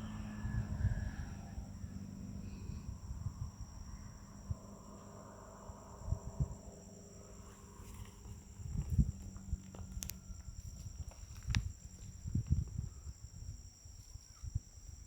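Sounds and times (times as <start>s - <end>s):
low bumps: 0.0s - 13.4s
insects trilling: 0.0s - 15.0s.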